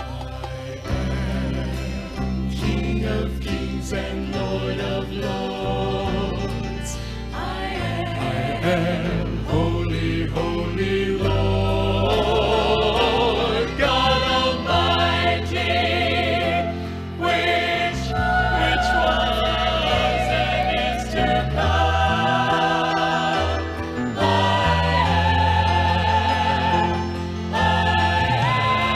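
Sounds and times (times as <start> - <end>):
accompaniment with bass line: 0.0 - 28.9
vocal group singing in harmony: 0.0 - 28.9.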